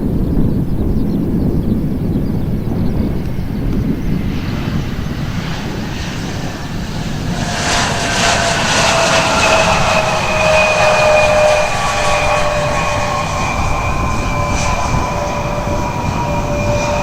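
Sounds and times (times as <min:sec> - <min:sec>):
high jet engine whine: 0:00.0 - 0:17.0
jet engine rumble: 0:00.0 - 0:17.0.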